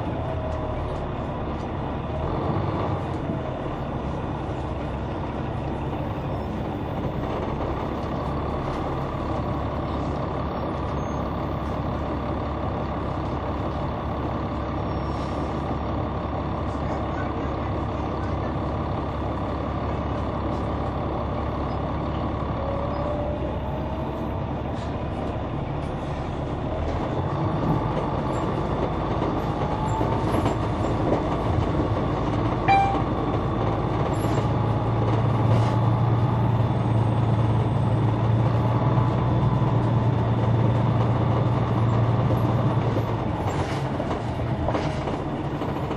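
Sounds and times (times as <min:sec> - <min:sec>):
bus diesel engine: 0:00.0 - 0:45.9.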